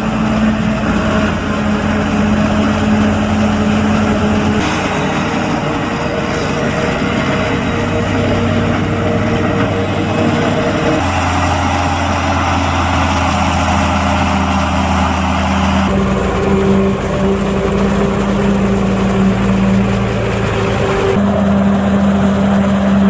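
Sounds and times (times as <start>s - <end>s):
chopper and crop blower rushing: 0.0s - 23.0s
heavy diesel engine drone: 0.0s - 23.0s.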